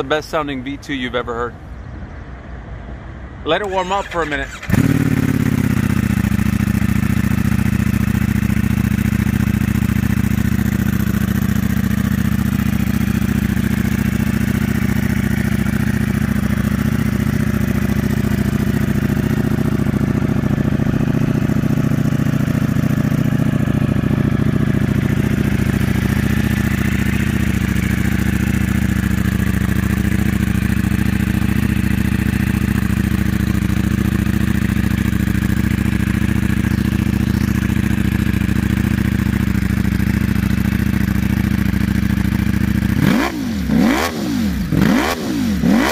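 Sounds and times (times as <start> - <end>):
motorcycle engine idling: 4.0 - 45.9.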